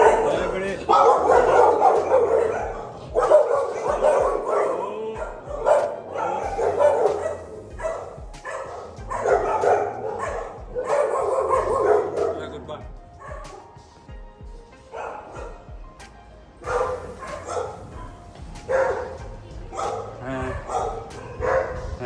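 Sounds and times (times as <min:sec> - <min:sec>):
dogs barking and yapping: 0:00.0 - 0:22.0.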